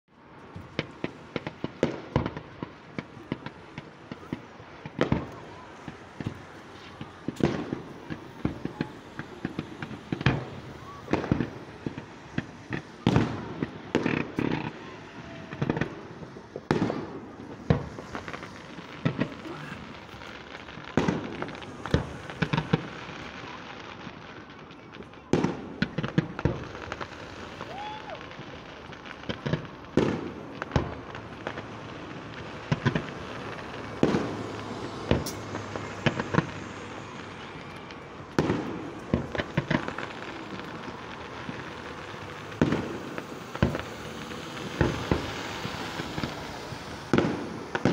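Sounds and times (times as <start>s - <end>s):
fireworks bangs: 0.2s - 47.9s.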